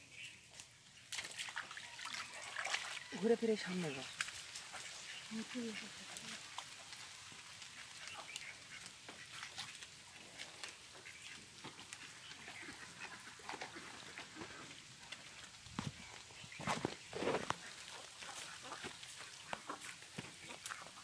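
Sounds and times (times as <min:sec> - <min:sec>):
dry leaves crackling and rustling: 0:02.0 - 0:21.0.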